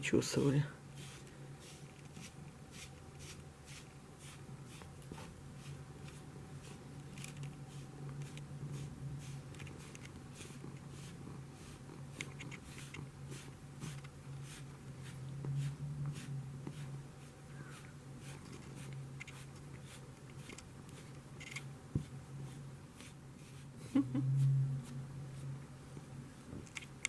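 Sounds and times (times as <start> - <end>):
steady low hum: 0.0 - 27.0
brush scratching through fur: 0.9 - 21.2, 22.0 - 25.6.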